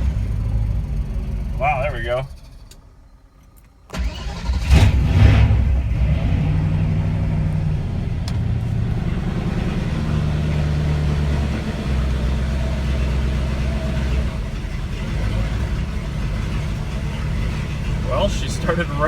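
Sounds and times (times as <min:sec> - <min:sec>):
car engine revving then idling: 0:00.0 - 0:02.7, 0:04.0 - 0:19.0.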